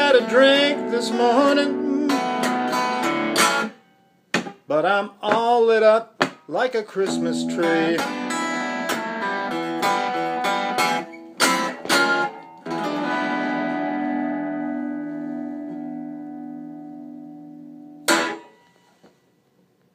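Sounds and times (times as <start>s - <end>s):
guitar strumming blues chords: 0.0s - 18.9s.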